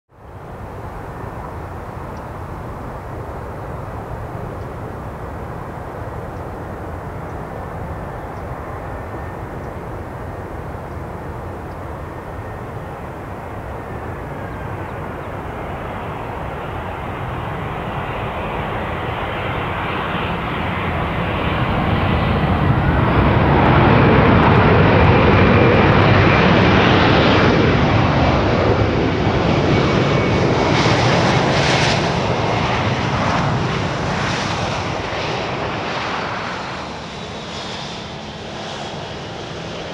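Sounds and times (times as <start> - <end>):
jet engines roaring: 0.2 - 39.9
jet reverse thrust roar: 0.2 - 39.9.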